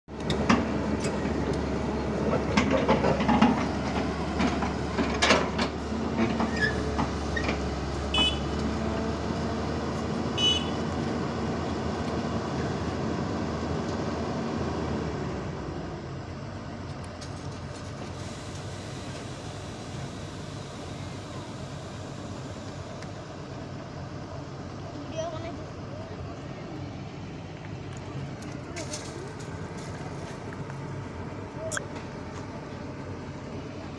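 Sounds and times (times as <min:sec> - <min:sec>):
excavator diesel engine: 0:00.1 - 0:33.9.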